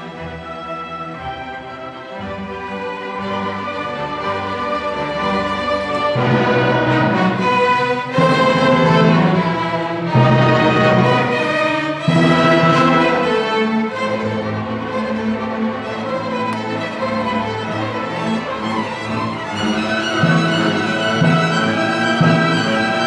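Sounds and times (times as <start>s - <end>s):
orchestra playing sustained chords: 0.0s - 23.0s
violins: 0.0s - 23.0s.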